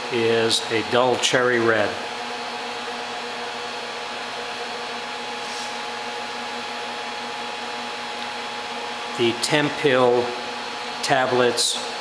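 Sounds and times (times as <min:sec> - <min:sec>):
induction heater hissing: 0:00.0 - 0:12.0
induction heater humming: 0:00.0 - 0:12.0.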